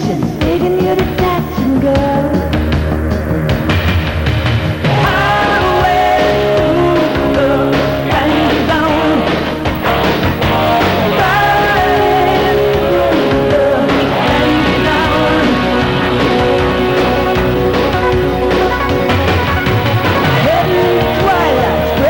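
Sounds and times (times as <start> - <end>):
loud rock music: 0.0 - 22.0.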